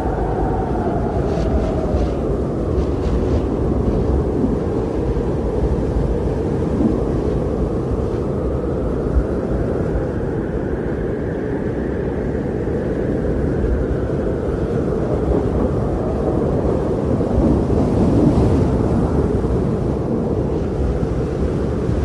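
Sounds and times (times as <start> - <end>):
blizzard wind blowing: 0.0 - 22.0.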